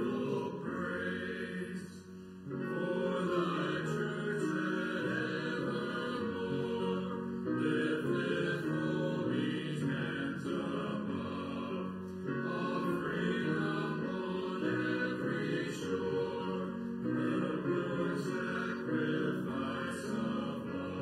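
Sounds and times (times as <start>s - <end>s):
men's choir singing: 0.0s - 21.0s
piano accompaniment: 0.0s - 21.0s.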